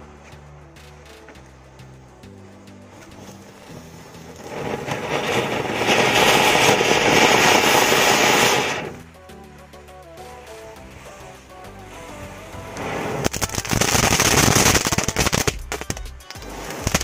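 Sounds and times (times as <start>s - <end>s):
firework fountain hissing: 0.0s - 17.0s.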